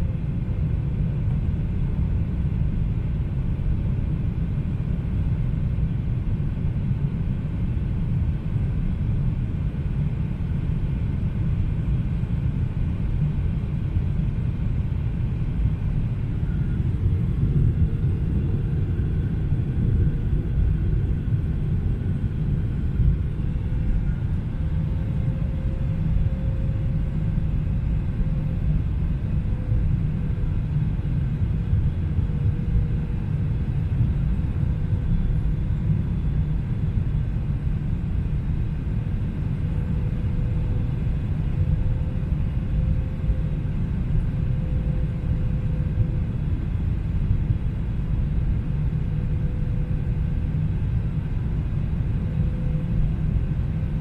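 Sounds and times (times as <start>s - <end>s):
airliner cabin rumble: 0.0s - 54.0s
faint engine hum: 0.0s - 54.0s.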